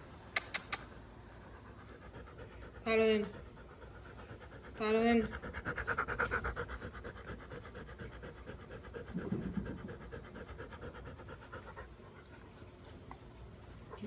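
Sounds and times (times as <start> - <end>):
dog panting quickly: 1.3 - 14.0.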